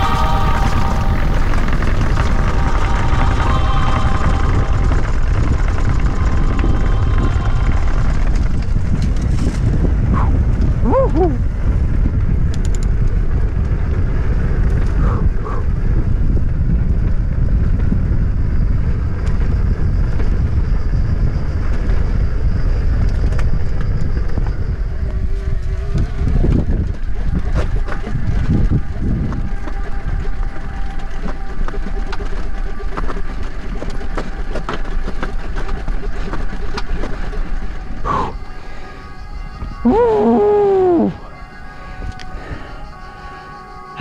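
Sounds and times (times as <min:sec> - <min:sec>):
wind buffeting microphone: 0:00.0 - 0:43.6
bike tyres rolling on pavement: 0:00.0 - 0:44.0.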